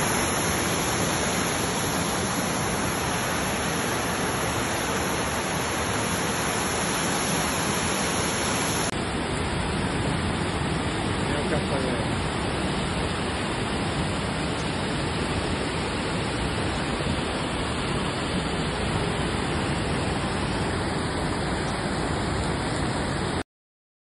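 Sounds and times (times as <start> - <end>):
floodwater rushing down street: 0.0 - 23.4.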